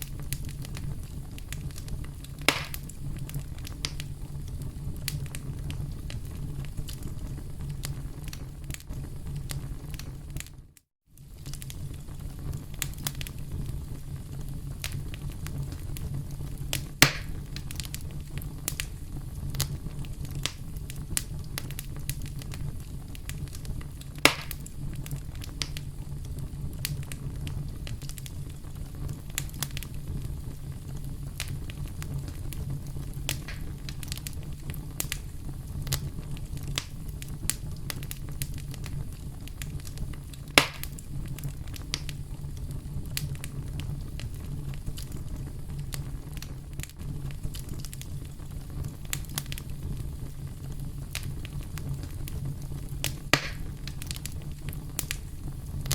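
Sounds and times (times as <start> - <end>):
campfire crackling: 0.0 - 55.9
loud fire pops: 0.0 - 55.9.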